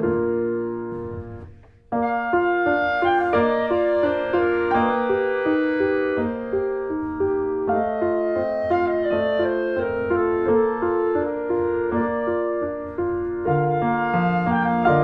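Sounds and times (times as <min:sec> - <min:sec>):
piano: 0:00.0 - 0:15.0
woodwind melody: 0:00.0 - 0:15.0.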